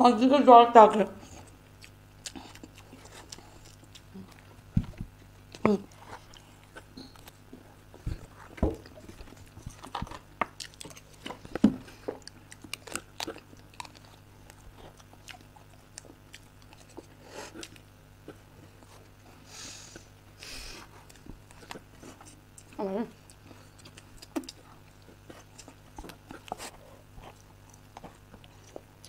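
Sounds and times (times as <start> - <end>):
chewing and wet mouth sounds: 1.2 - 19.3, 20.9 - 29.0.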